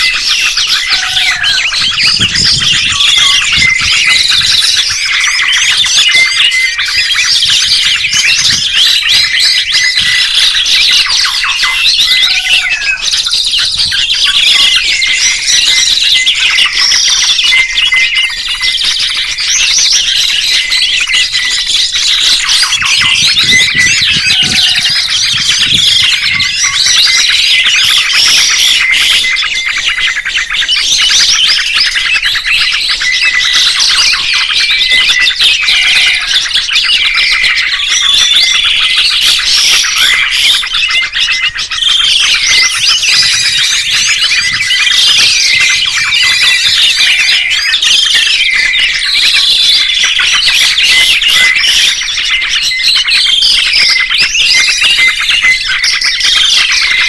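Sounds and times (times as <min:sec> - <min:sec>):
songbirds chirping and squawking: 0:00.0 - 0:57.0.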